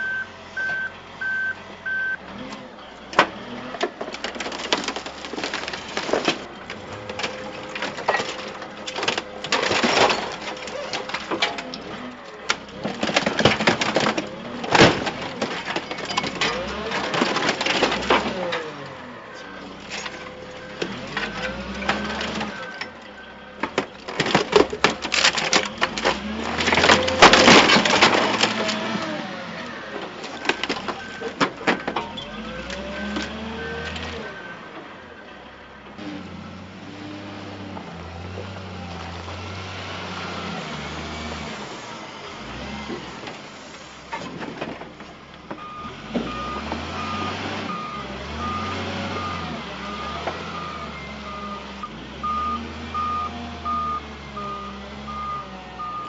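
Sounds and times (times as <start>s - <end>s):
loader engine running: 0.0s - 56.0s
metal crunching and screeching: 1.7s - 56.0s.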